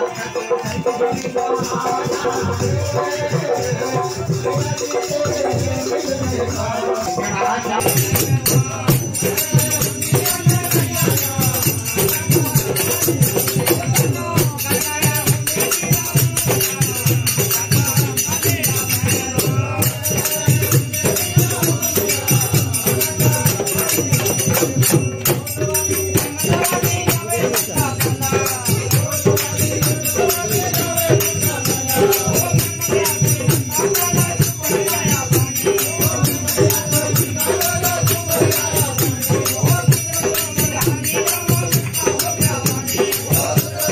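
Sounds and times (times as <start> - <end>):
men singing devotional song: 0.0 - 43.9
tabla and dholak drumming: 0.0 - 43.9.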